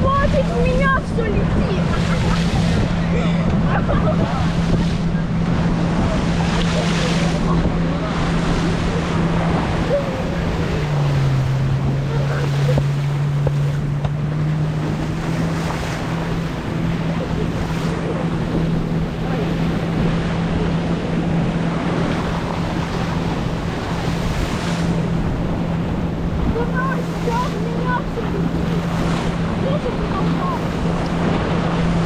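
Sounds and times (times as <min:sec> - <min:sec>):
boat engine drone: 0:00.0 - 0:32.0
water rushing: 0:00.0 - 0:32.0
wind buffeting microphone: 0:00.0 - 0:32.0.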